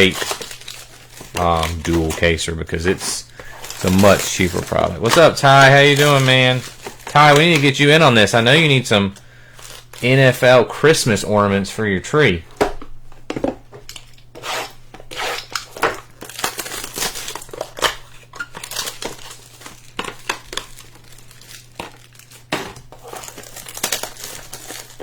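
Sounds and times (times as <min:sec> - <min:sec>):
plastic wrapping crinkling and tearing: 0:00.0 - 0:11.4, 0:15.0 - 0:25.0.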